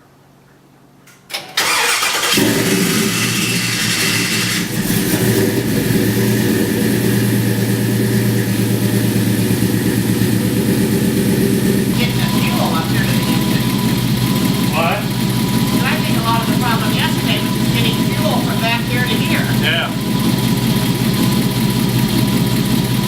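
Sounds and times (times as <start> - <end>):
engine starting and running: 1.3 - 23.0
starter motor whirring: 1.5 - 23.0.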